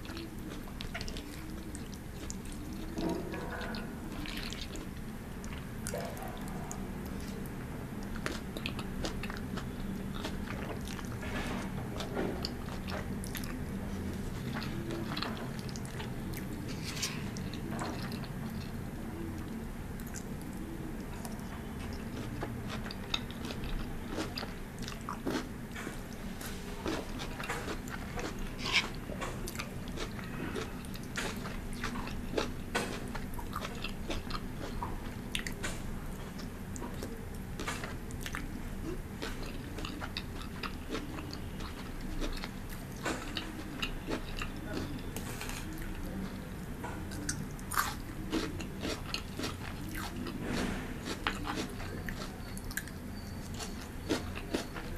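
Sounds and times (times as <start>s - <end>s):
crunchy chewing: 0.0s - 54.9s.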